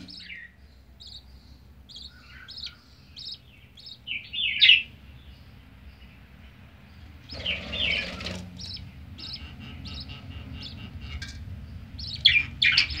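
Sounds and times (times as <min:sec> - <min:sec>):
budgerigars chirping: 0:00.0 - 0:13.0
harsh bird calls: 0:00.0 - 0:13.0.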